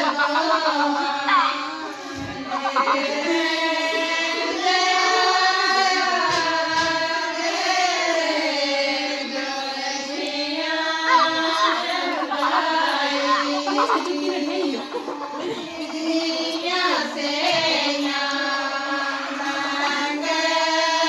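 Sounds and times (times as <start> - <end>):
women singing in unison: 0.0 - 21.0.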